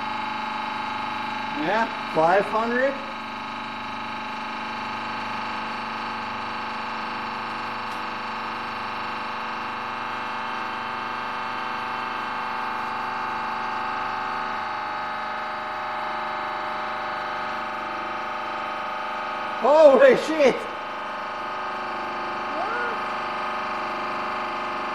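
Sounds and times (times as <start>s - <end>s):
press machine humming: 0.0s - 24.9s.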